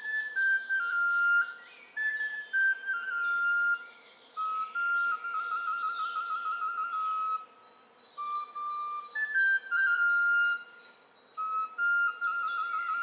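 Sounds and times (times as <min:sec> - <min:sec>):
flute playing slow melody: 0:00.0 - 0:13.0.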